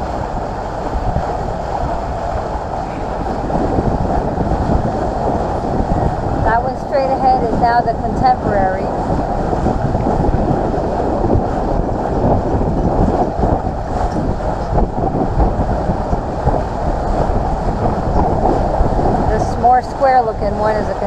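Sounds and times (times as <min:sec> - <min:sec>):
boat motor rumbling: 0:00.0 - 0:21.0
water noise: 0:00.0 - 0:21.0
wind on microphone: 0:00.0 - 0:21.0.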